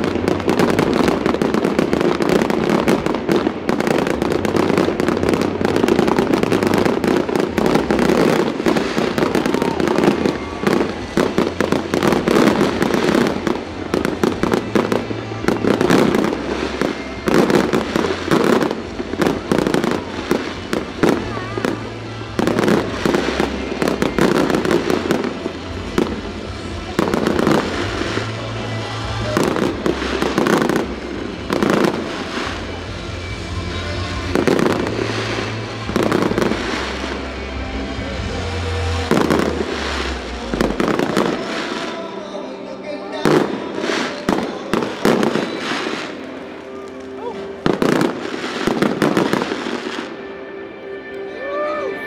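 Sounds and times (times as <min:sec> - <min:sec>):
fireworks bursting and crackling: 0:00.0 - 0:52.0
music playing: 0:00.0 - 0:52.0.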